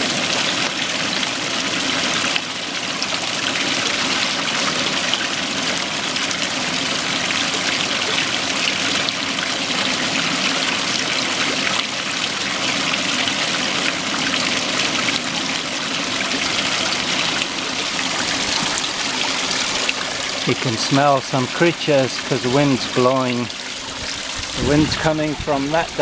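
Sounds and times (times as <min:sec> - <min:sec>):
creek trickling into a pool: 0:00.0 - 0:26.0.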